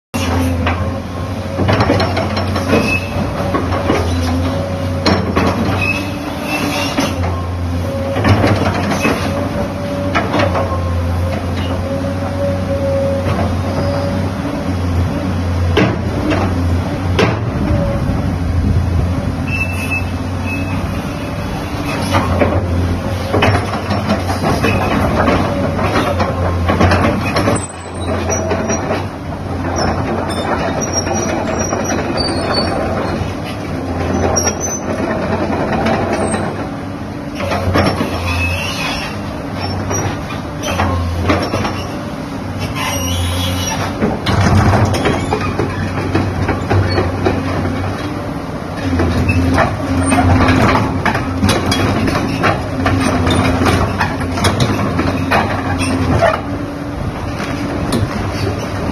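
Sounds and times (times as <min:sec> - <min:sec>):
diesel engine running: 0:00.2 - 0:58.9.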